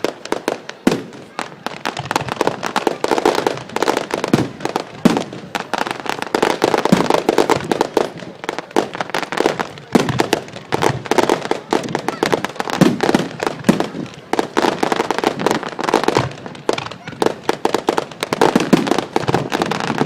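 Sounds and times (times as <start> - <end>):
fireworks bangs and crackling pops: 0.0 - 20.0.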